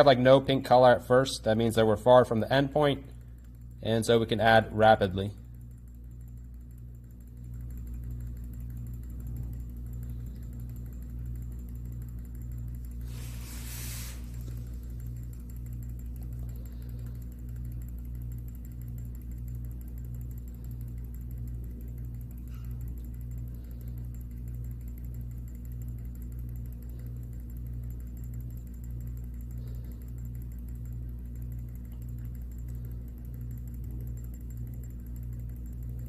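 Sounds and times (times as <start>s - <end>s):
lab equipment humming: 0.0s - 36.0s
regular mechanical pulsing: 0.0s - 36.0s.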